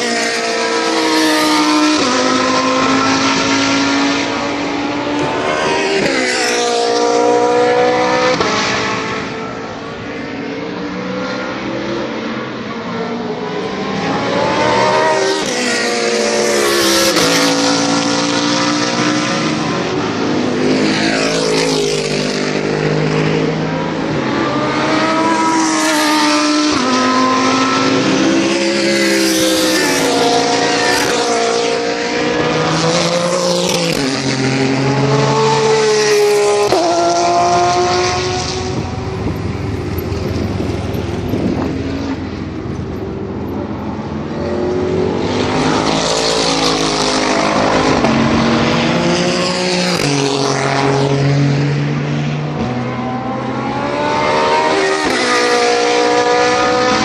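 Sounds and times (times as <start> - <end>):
race cars passing at speed: 0.0 - 57.0.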